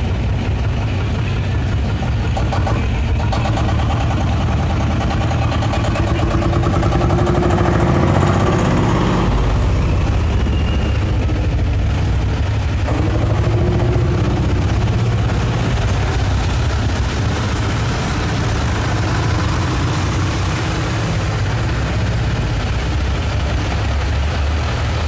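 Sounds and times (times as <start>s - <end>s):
tractor diesel engines rumbling: 0.0s - 25.0s.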